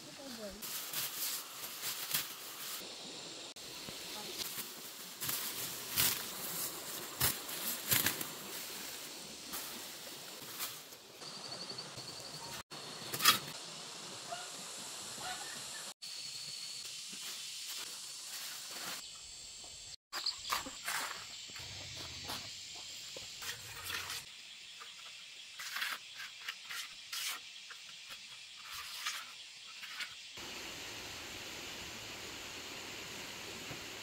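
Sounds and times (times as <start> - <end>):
steady high hiss: 0.0 - 20.0, 21.0 - 34.0.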